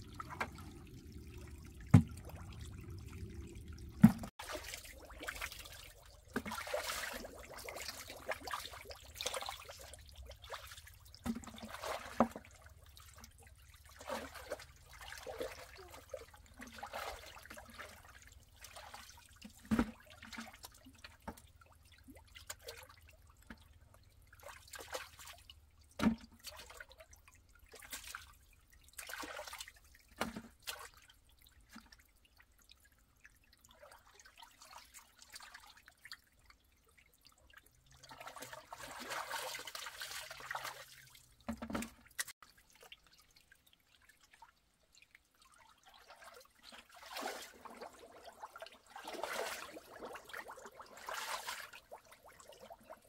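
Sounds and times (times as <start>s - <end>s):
water splashing and trickling: 0.0s - 53.0s.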